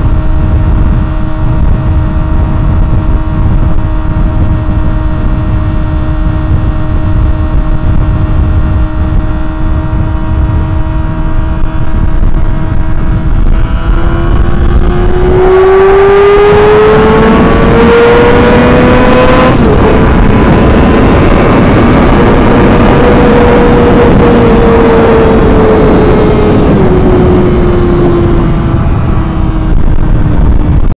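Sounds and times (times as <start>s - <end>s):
motorcycle engine accelerating: 0.0s - 30.9s
wind rush on microphone: 0.0s - 30.9s.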